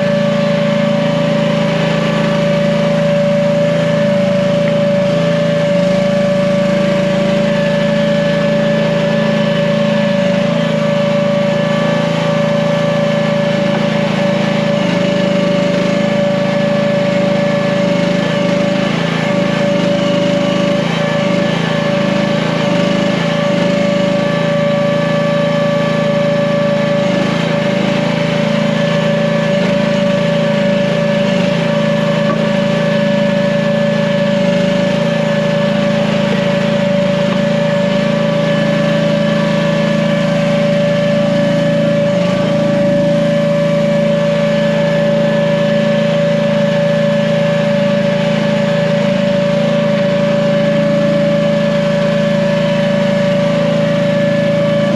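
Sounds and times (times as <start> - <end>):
excavator engine running: 0.0 - 54.9
steady whine: 0.0 - 54.9.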